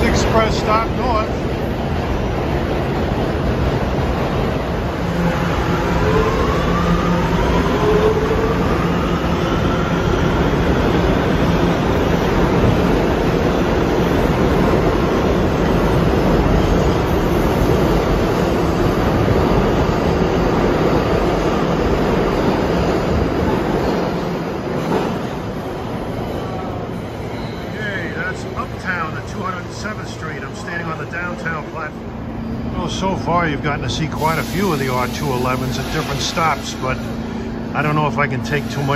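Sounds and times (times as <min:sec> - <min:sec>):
subway train wheel and track noise: 0:00.0 - 0:38.9.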